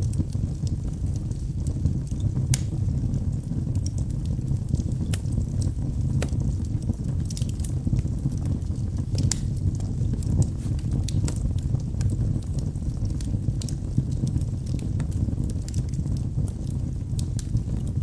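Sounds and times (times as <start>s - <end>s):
fireplace flames roaring: 0.0s - 18.0s
logs crackling and popping: 0.0s - 18.0s.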